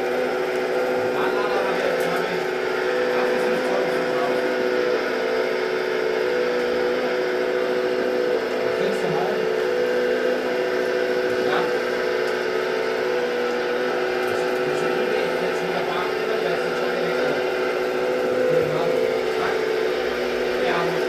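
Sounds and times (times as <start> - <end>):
motor and pump whine: 0.0 - 21.0.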